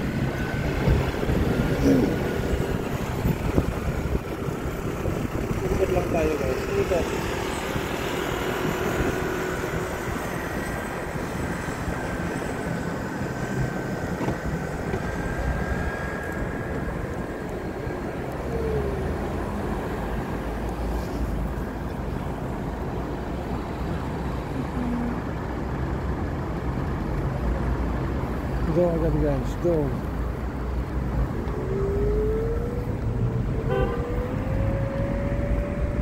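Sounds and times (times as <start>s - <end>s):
city traffic rumble: 0.0s - 36.0s.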